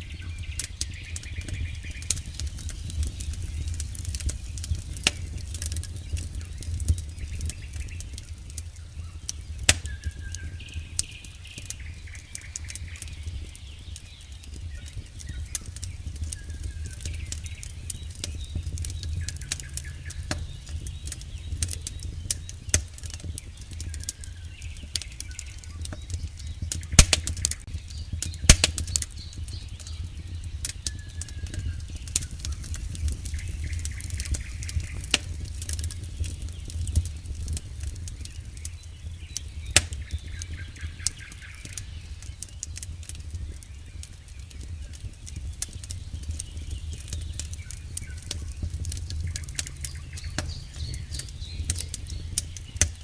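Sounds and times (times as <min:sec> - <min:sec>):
campfire crackling: 0:00.0 - 0:53.0
wood snapping pops: 0:00.6 - 0:08.3, 0:09.2 - 0:10.4, 0:13.9 - 0:30.0, 0:30.6 - 0:38.7, 0:39.3 - 0:43.3, 0:44.0 - 0:53.0.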